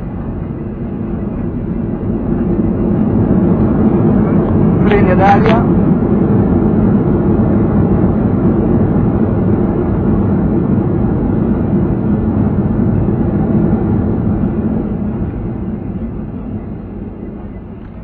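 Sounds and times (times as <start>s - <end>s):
airliner engines and wheels rumble: 0.0s - 18.0s.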